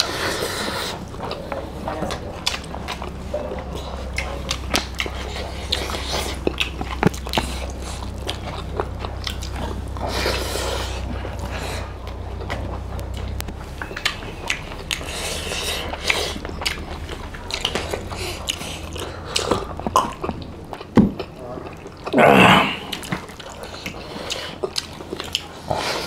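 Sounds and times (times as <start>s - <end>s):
chewing mouth clicks and smacks: 0.0s - 26.0s
low steady hum: 0.0s - 26.0s.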